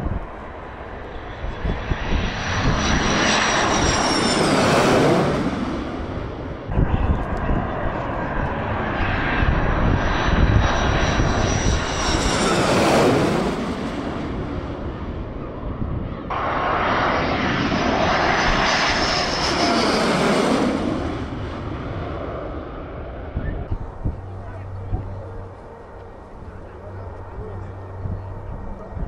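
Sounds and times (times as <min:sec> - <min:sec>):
fighter jets flying low overhead: 0:00.0 - 0:29.0.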